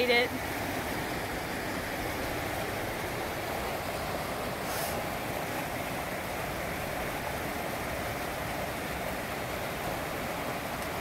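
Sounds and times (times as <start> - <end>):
river rushing over boulders: 0.0 - 11.0.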